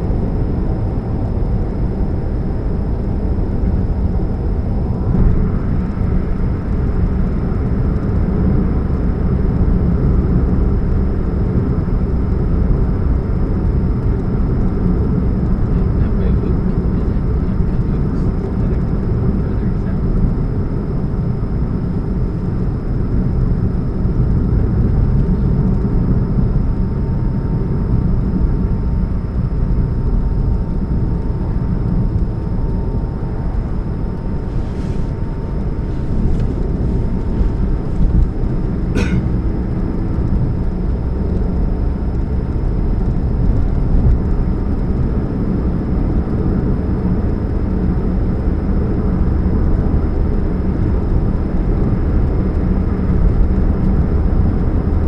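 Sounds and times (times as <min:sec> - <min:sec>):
car engine rumbling: 0:00.0 - 0:55.0
faint steady hum: 0:00.0 - 0:55.0.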